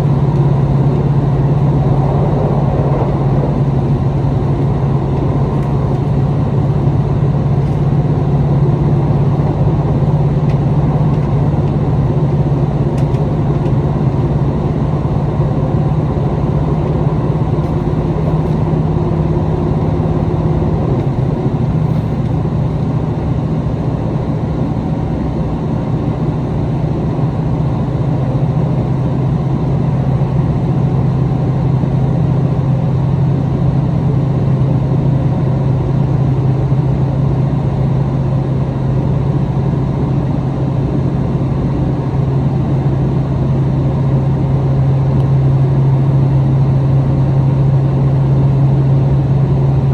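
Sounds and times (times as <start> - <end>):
diesel railcar drone: 0.0 - 49.9
train rumbling on rails: 0.0 - 49.9.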